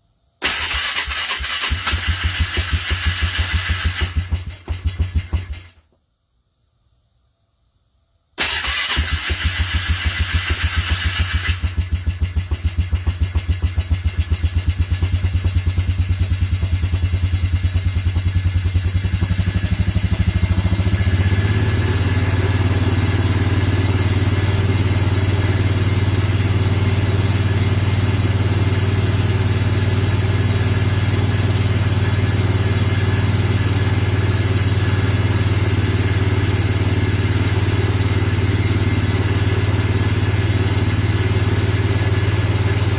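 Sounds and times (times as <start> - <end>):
cold engine running rough: 0.4 - 5.9, 8.4 - 42.9.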